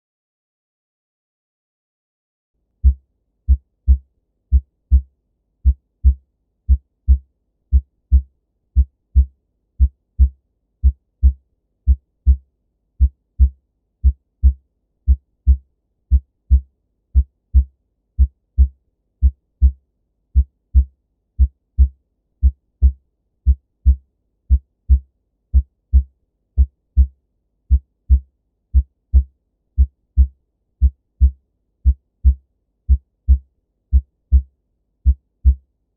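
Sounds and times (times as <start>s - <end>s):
heartbeat lub-dub thuds: 2.8s - 12.4s, 13.0s - 19.8s, 20.4s - 27.1s, 28.8s - 35.6s.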